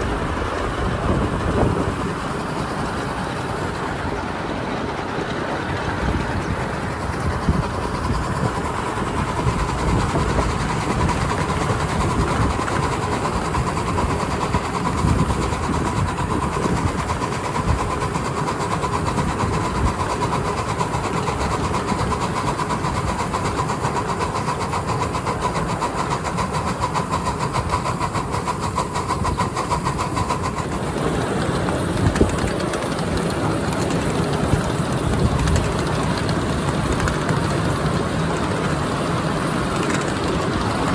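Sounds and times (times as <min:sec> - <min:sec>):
steady whine: 0:00.0 - 0:40.9
train wheels rumbling on rails: 0:00.0 - 0:40.9.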